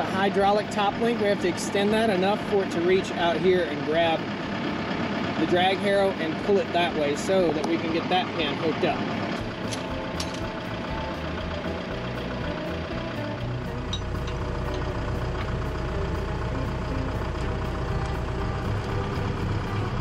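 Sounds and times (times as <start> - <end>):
diesel tractor engine idling: 0.0 - 20.0.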